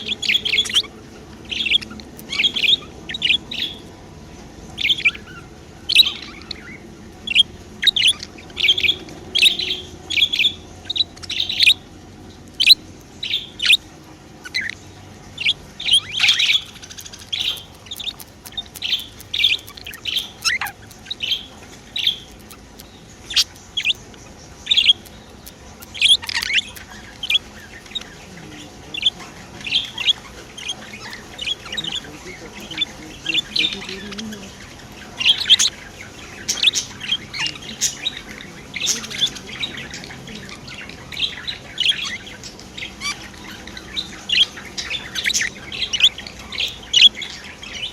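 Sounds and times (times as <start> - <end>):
budgerigars chirping: 0.0 - 3.9, 4.7 - 47.9.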